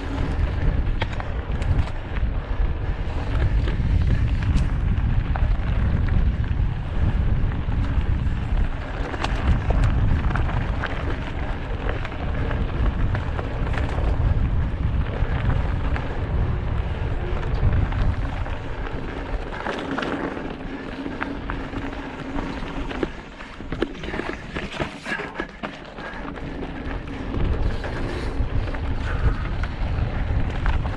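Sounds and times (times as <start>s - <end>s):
bike clicking and rattling: 0.0s - 30.9s
wind buffeting microphone: 0.0s - 30.9s.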